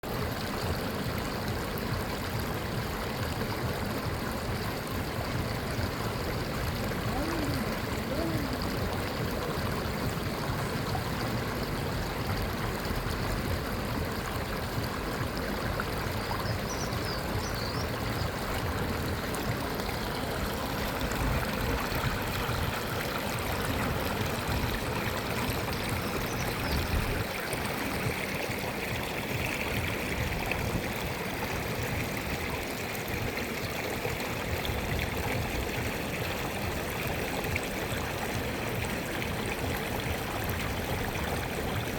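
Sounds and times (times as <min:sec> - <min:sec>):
fountain water splashing: 0:00.0 - 0:41.9.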